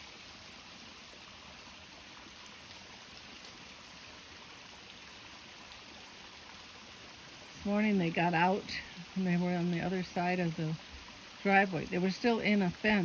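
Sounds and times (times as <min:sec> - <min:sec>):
small stream flowing: 0:00.0 - 0:13.0.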